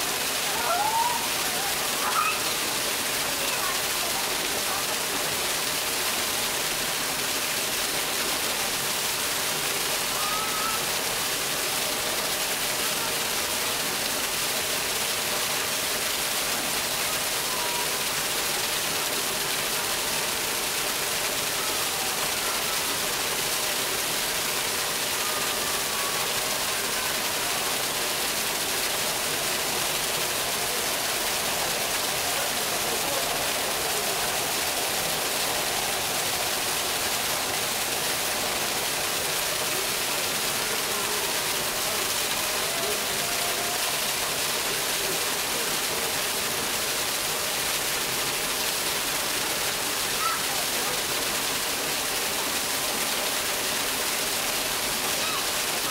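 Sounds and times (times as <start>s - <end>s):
waterfall splashing into pool: 0.0s - 55.9s.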